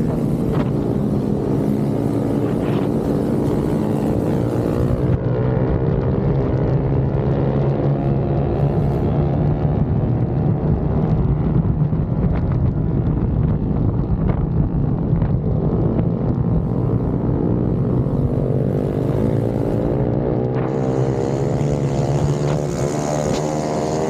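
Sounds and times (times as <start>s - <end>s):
dirt bike engines droning: 0.0s - 24.0s.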